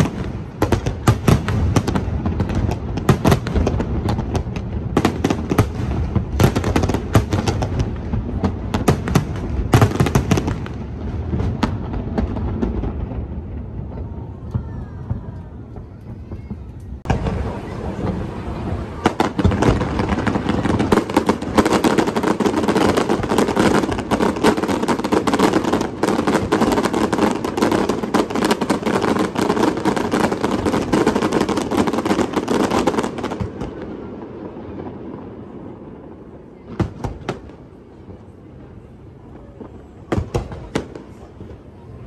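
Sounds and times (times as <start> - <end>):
separate firework bangs: 0.0 - 37.8, 39.6 - 41.8
fireworks bursting and crackling: 0.0 - 42.0.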